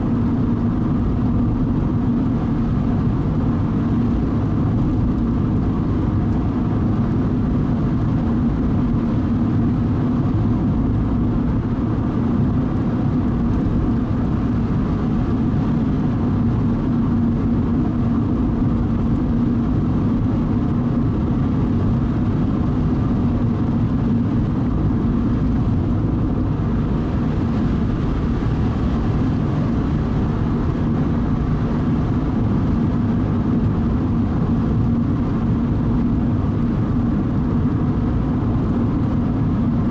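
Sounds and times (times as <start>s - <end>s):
car engine hum: 0.0s - 39.9s
road and tyre rumble: 0.0s - 39.9s.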